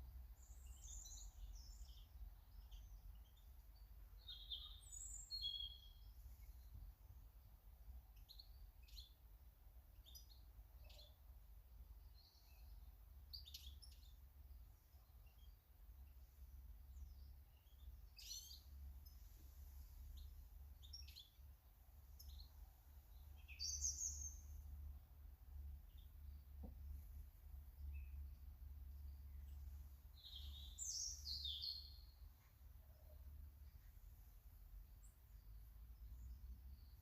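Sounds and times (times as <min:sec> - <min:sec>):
garden birds chirping: 0:00.0 - 0:37.0.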